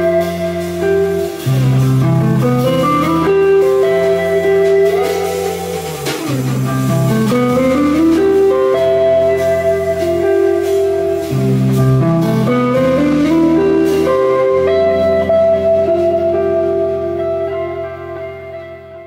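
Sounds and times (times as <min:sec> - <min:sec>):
electric guitar notes: 0:00.0 - 0:19.0.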